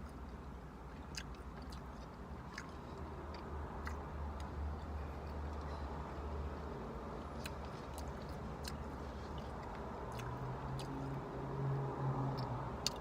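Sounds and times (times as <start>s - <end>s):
person chewing food: 0.0s - 11.3s, 12.1s - 13.0s.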